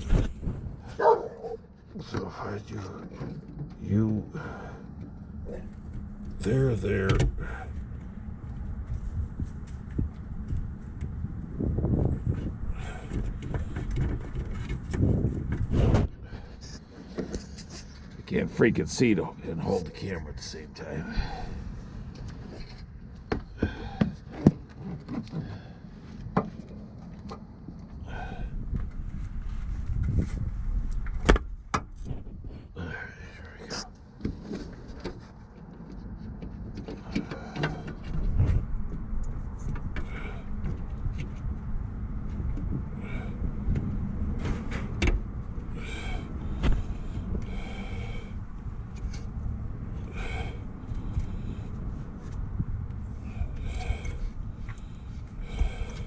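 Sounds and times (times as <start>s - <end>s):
steady low rumble: 0.0s - 24.7s, 25.3s - 56.0s.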